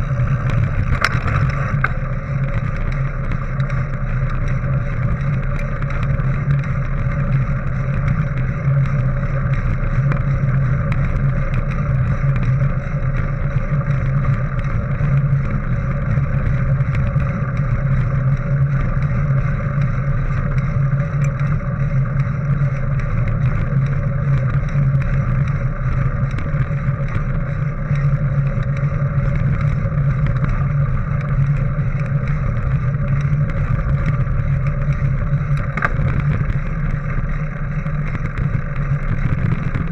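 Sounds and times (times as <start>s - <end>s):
bike tyres rumbling on gravel: 0.0s - 39.9s
grit ticking under tyres: 0.0s - 39.9s.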